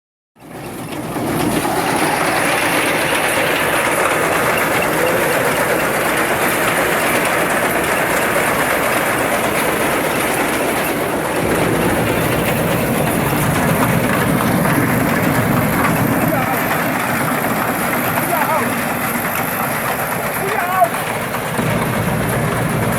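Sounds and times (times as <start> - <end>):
machine clattering rattle: 0.4 - 22.9.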